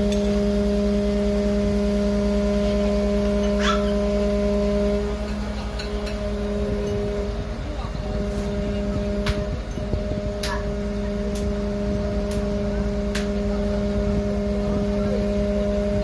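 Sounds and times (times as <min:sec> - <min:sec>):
ladder machinery humming: 0:00.0 - 0:16.0.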